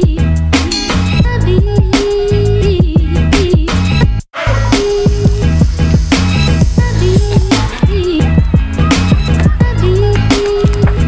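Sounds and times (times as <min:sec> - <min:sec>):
music with drum beat: 0:00.0 - 0:11.0.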